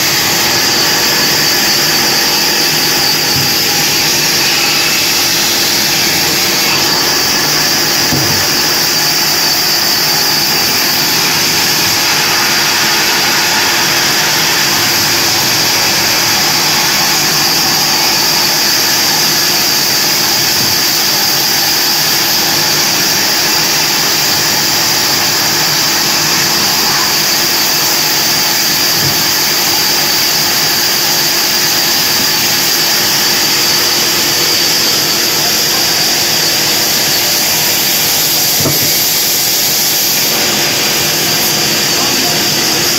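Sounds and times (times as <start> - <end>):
bandsaw cutting logs: 0.0 - 42.9.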